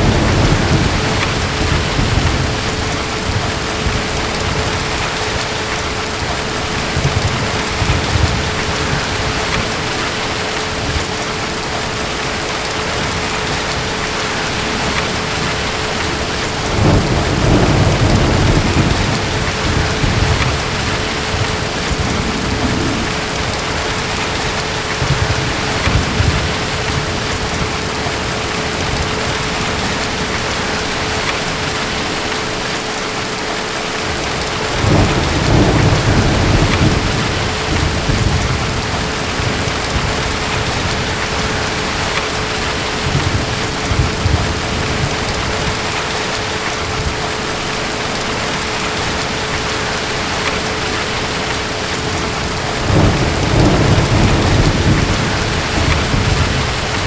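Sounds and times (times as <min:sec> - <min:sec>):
distant thunder: 0:00.0 - 0:32.7, 0:34.1 - 0:47.2, 0:49.6 - 0:57.0
heavy rain: 0:00.0 - 0:57.0.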